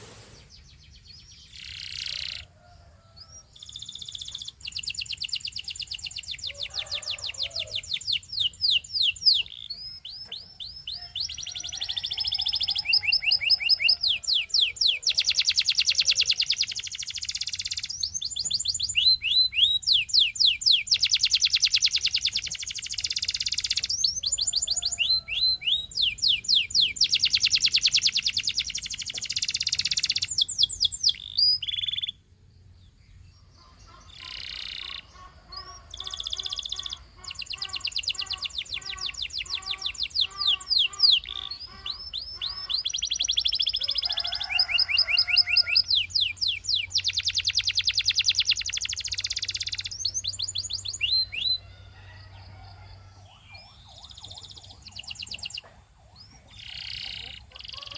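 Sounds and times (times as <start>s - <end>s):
canary singing trills: 0.3s - 57.9s.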